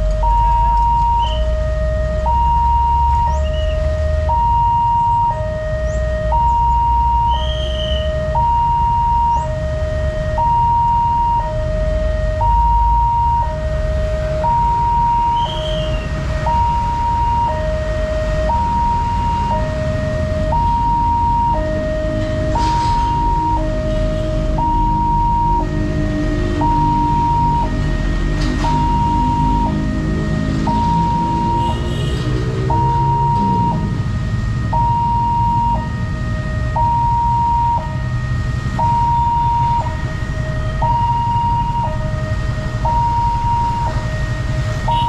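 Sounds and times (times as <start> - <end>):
level crossing two-tone alarm: 0.0 - 45.0
road traffic rumble: 0.0 - 45.0.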